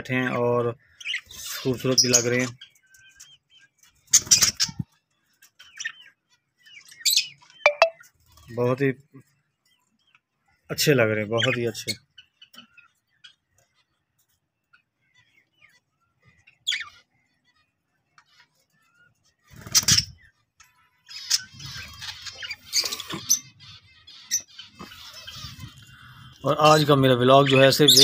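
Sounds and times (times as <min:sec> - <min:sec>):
budgerigars chirping and warbling: 0:00.0 - 0:28.0.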